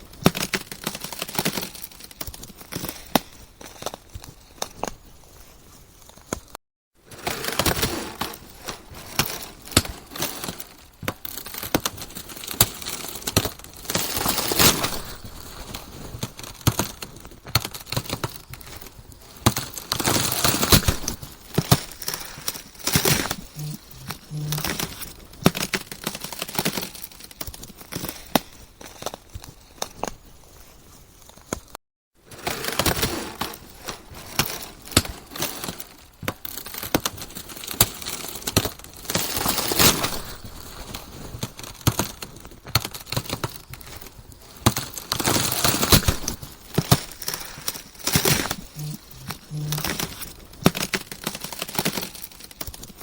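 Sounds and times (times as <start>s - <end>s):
ice cracking and crunching: 0.0s - 53.0s.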